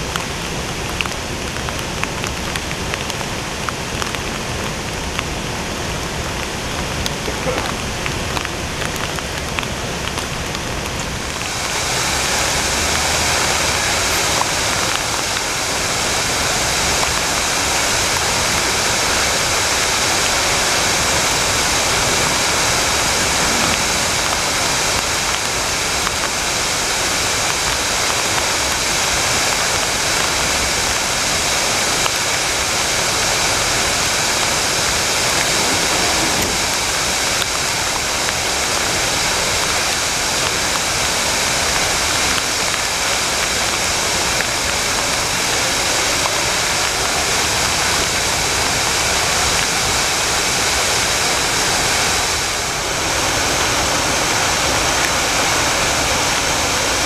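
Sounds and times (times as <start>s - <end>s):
rain falling: 0.0s - 57.0s
waterfall rushing over rocks: 0.0s - 57.0s.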